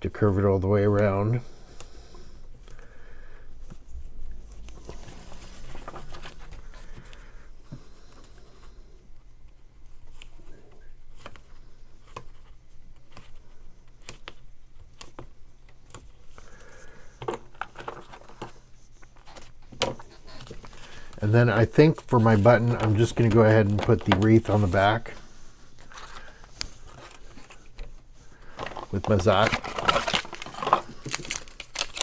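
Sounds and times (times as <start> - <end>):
paper rustling: 3.6 - 8.4, 11.1 - 32.0.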